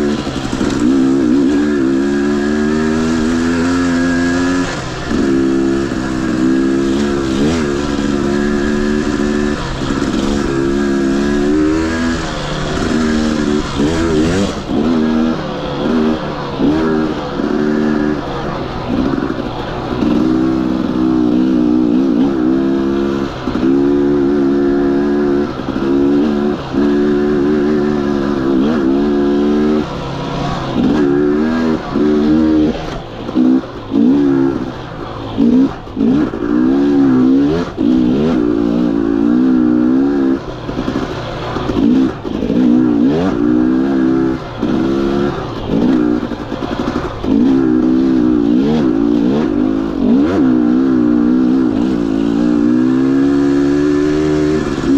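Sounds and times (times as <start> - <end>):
two-stroke dirt bike engine revving: 0.0 - 54.9.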